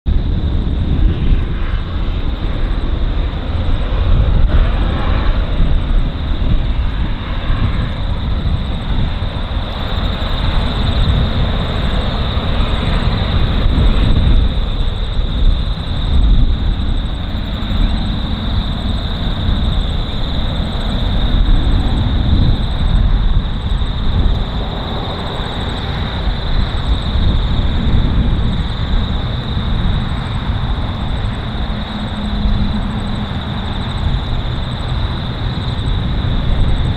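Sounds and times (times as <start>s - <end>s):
diesel locomotive rumble: 0.1s - 36.9s.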